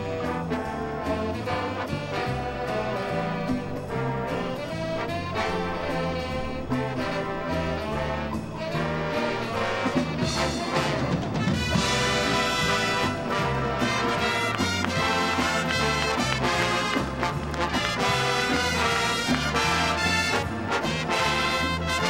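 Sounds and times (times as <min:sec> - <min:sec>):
drum kit keeping time: 0:00.0 - 0:22.0
marching band playing jazz: 0:00.0 - 0:22.0.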